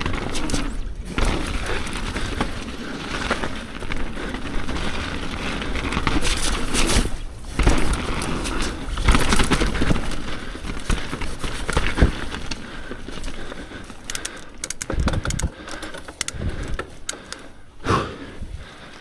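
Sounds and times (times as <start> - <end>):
bike chain and frame rattling: 0.0 - 17.8
bike tyres over dirt and roots: 0.0 - 19.0.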